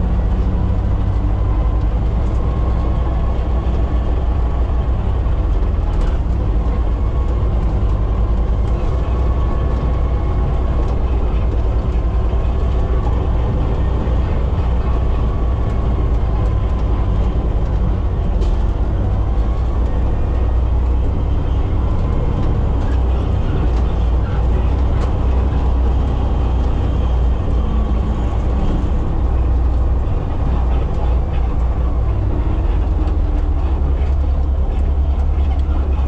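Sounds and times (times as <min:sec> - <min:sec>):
diesel truck engine rumbling: 0:00.0 - 0:36.0.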